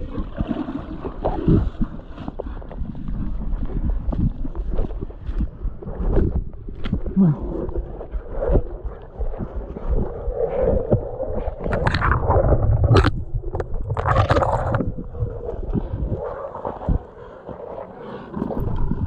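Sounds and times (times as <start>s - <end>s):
person wading through water: 0.0s - 19.0s.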